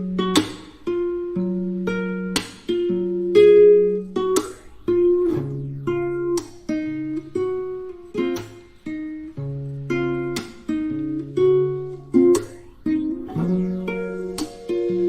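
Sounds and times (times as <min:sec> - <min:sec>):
acoustic guitar plucked chords: 0:00.0 - 0:15.0.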